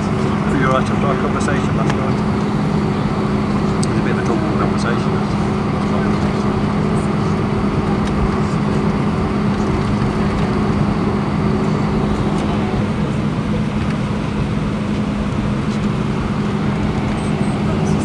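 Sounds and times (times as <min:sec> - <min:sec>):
jet engines humming: 0:00.0 - 0:18.0.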